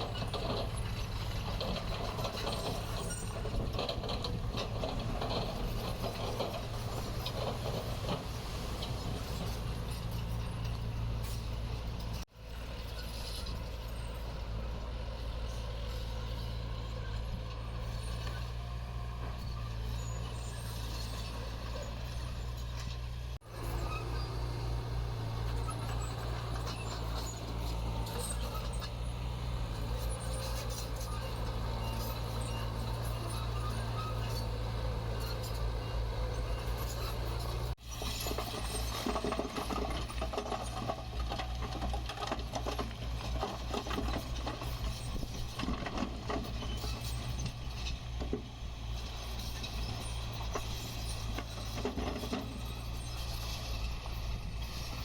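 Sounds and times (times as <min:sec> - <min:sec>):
metallic clatter and rattling: 0:00.0 - 0:12.3, 0:19.3 - 0:55.0
diesel machinery droning: 0:00.0 - 0:55.0.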